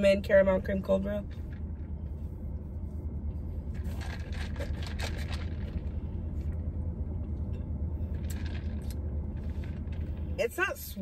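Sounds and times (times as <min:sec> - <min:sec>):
low rumble in car cabin: 0:00.0 - 0:11.0.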